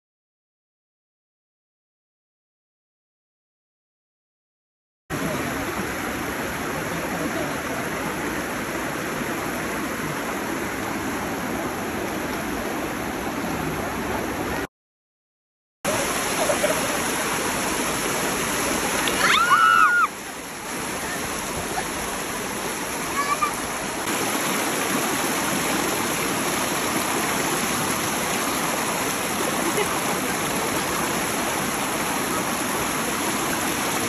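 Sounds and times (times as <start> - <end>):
river water rushing over rocks: 5.1 - 14.7, 15.9 - 34.0.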